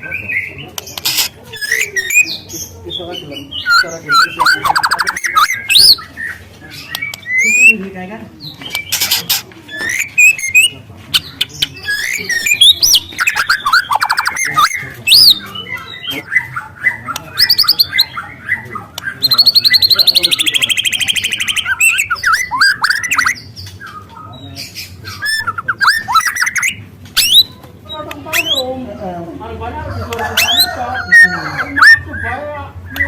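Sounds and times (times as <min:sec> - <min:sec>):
bird singing varied song: 0:00.0 - 0:33.0
rapid bird trill: 0:01.0 - 0:02.5, 0:03.6 - 0:07.8, 0:08.8 - 0:24.0, 0:24.7 - 0:28.7, 0:30.2 - 0:32.3.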